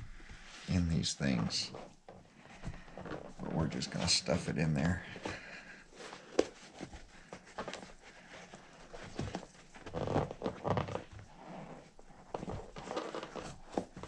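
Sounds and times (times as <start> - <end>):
rubbing and rustling of rubber: 0.0 - 14.0.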